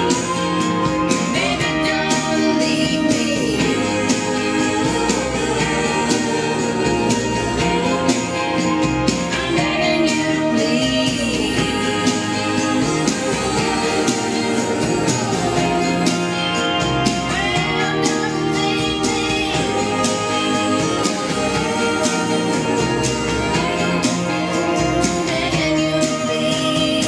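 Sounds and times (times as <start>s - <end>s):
pop song with singing: 0.0s - 27.0s.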